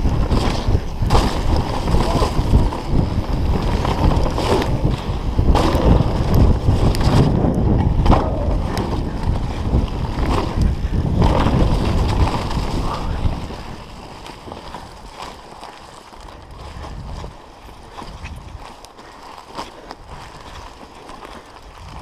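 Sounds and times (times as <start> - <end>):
wind buffeting microphone: 0.0 - 19.2, 19.9 - 22.0
bike clicks and rattles: 0.0 - 22.0
bike tyres rumbling on muddy trail: 0.0 - 22.0.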